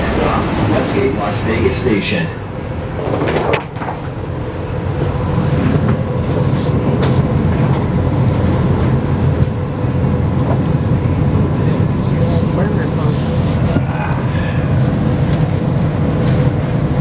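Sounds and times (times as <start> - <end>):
monorail car rumble and hum: 0.0 - 17.0.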